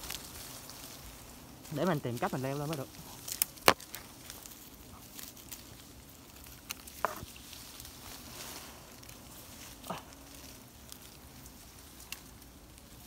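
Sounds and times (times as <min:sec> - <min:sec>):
tree branches cracking: 0:00.0 - 0:13.0.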